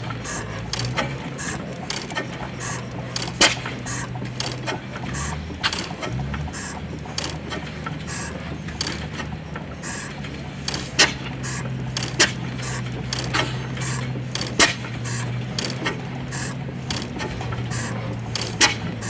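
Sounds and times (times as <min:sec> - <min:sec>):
mechanical ticking: 0:00.0 - 0:19.0
stationary gas engine humming: 0:00.0 - 0:19.0.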